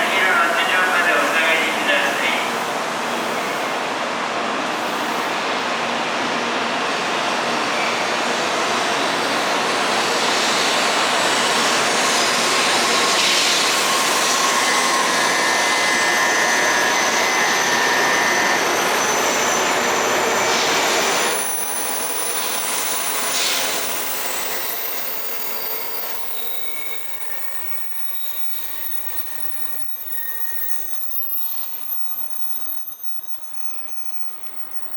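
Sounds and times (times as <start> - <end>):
high-speed train passing: 0.0 - 34.9.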